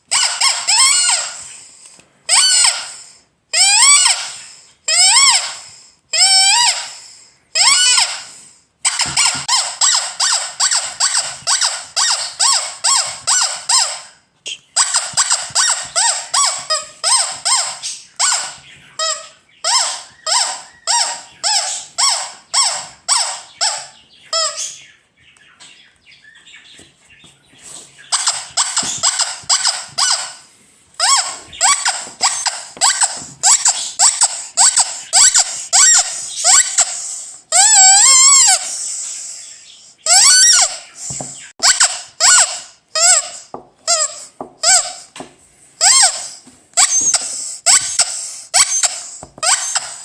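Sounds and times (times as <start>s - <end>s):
rubber squeeze toy squeaking: 0.0s - 1.6s, 2.3s - 24.8s, 28.0s - 50.0s.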